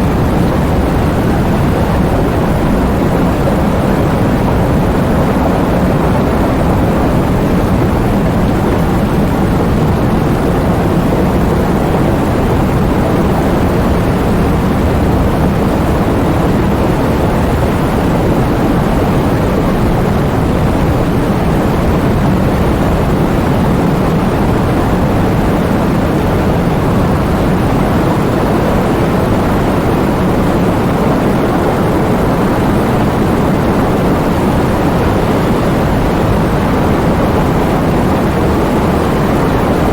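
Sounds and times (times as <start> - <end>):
heavy rain in strong wind: 0.0 - 39.9.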